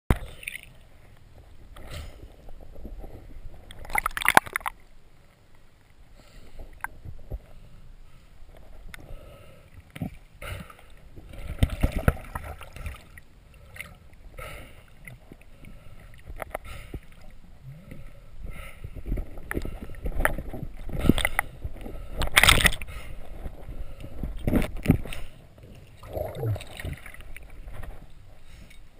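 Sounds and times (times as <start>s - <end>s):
muffled water sloshing underwater: 0.1s - 28.9s.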